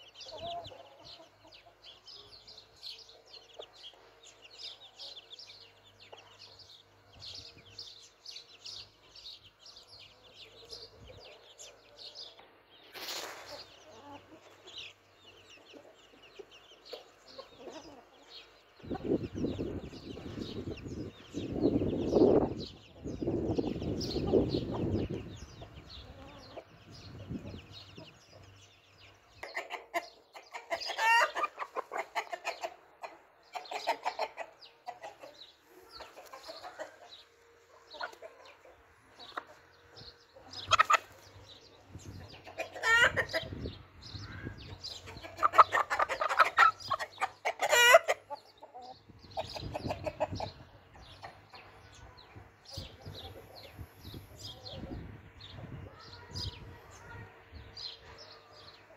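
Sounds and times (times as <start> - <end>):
chickens clucking: 0.0 - 58.9.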